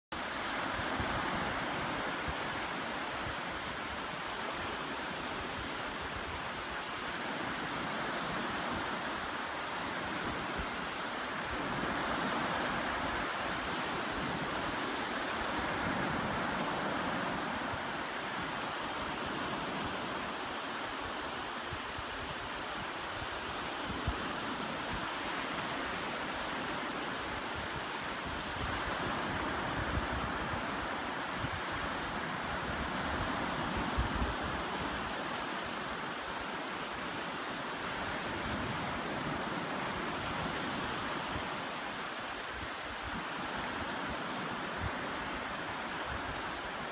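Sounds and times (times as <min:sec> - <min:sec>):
waves breaking on beach: 0:00.1 - 0:46.9
wind on microphone: 0:00.2 - 0:46.9.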